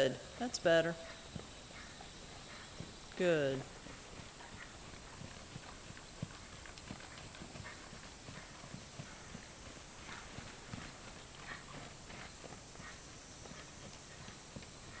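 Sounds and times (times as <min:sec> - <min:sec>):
horse hooves trotting on sand: 0:00.0 - 0:15.0.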